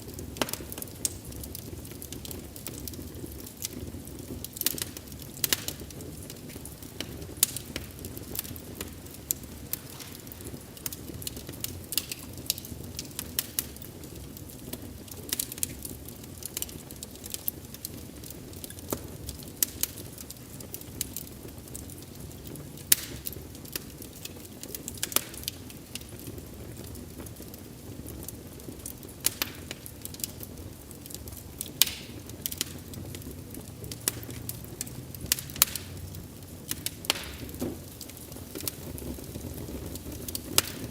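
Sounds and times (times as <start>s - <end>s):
fire hissing and rumbling: 0.0s - 40.9s
wood fire crackling and popping: 0.0s - 40.9s.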